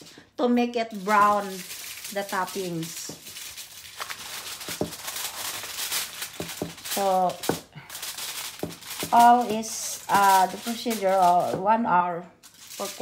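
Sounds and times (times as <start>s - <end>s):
aluminium foil crinkling: 0.0s - 11.8s, 12.4s - 13.0s.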